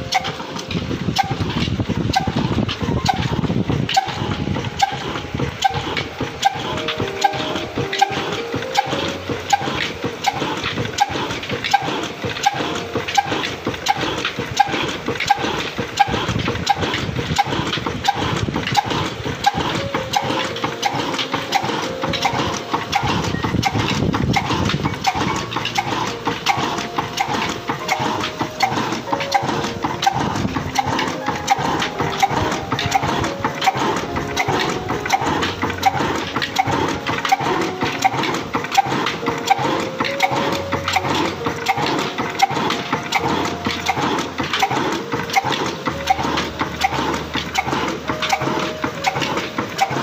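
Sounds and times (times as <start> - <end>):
stationary engine knocking: 0.0 - 50.0.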